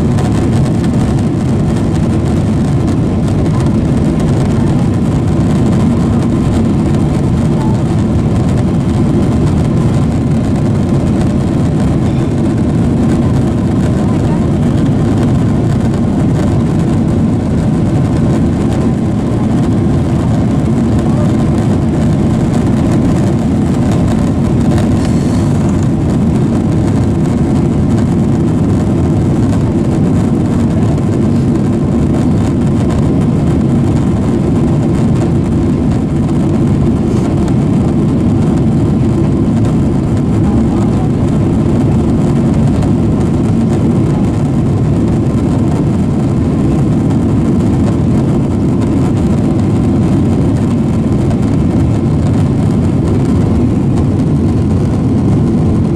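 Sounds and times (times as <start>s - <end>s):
jet engine roar in cabin: 0.0s - 55.9s
rushing air: 0.0s - 55.9s.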